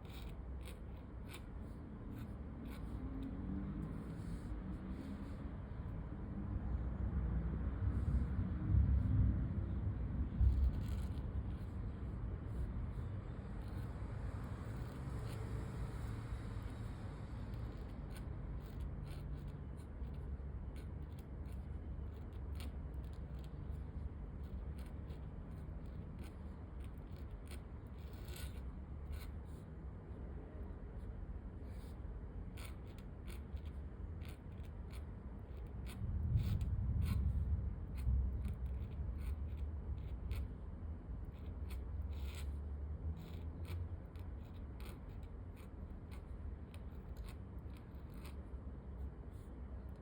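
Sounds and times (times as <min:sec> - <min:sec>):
pen scratching on paper: 0:00.0 - 0:05.9, 0:10.1 - 0:29.7, 0:30.5 - 0:50.0
low background rumble: 0:00.0 - 0:50.0.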